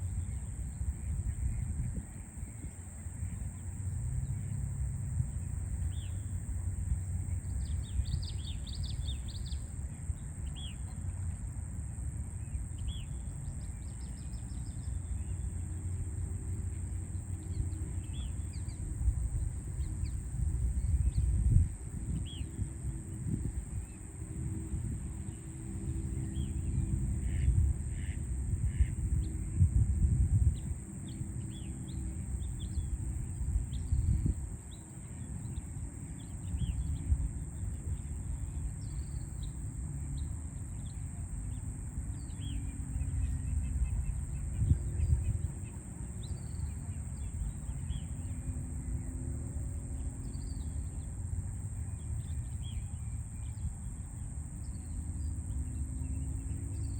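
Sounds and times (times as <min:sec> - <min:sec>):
city traffic rumble: 0:00.0 - 0:56.9.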